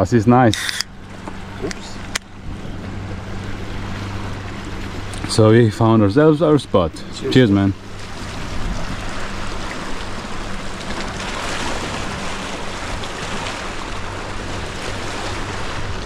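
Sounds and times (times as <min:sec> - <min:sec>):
sea waves washing against rocks: 0:03.0 - 0:16.0.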